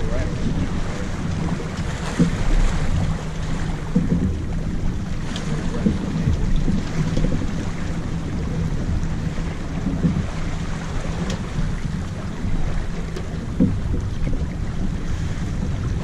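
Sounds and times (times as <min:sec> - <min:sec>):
water washing along hull: 0:00.0 - 0:16.0
wind buffeting microphone: 0:00.0 - 0:16.0.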